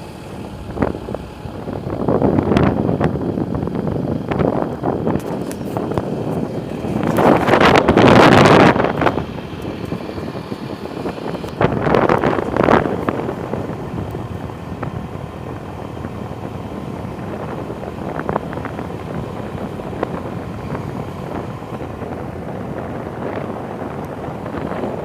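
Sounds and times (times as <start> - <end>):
motorcycle running: 0.0 - 25.0
wind rushing over microphone: 0.0 - 25.0.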